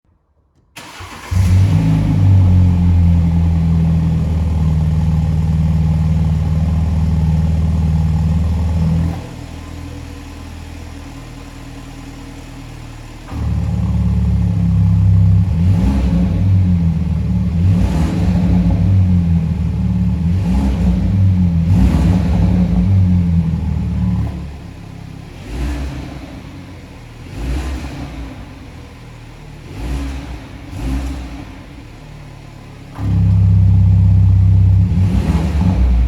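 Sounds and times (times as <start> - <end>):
car engine starting and idling: 0.5 - 36.0
engine revving: 0.8 - 10.1, 13.2 - 36.0.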